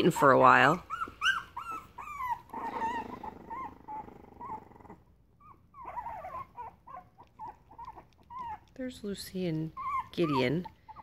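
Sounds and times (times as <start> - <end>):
puppies whimpering: 0.0 - 11.0.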